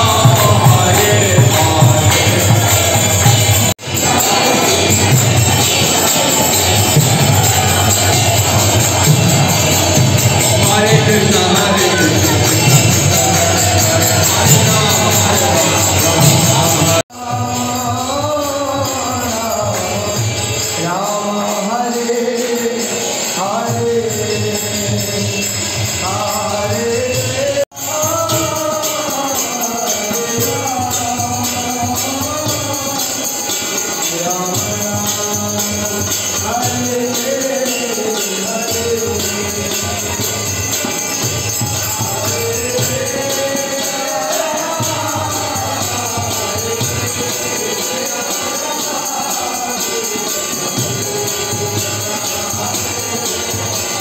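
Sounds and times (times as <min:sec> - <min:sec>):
hand cymbals jingling: 0:00.0 - 0:54.0
harmonium: 0:00.0 - 0:54.0
person chanting a melody: 0:00.0 - 0:54.0.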